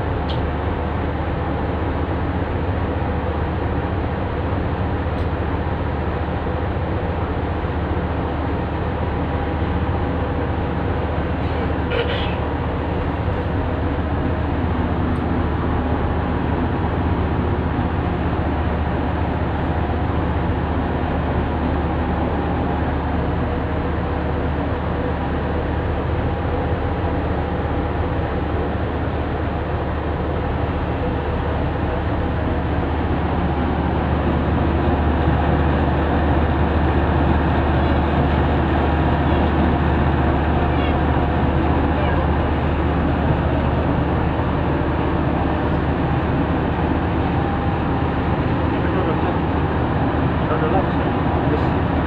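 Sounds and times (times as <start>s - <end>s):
marine diesel engine running: 0.0s - 52.0s.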